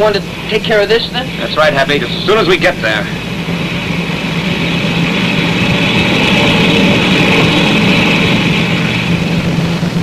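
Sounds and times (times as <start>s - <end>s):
spaceship engine drone: 0.0s - 10.0s.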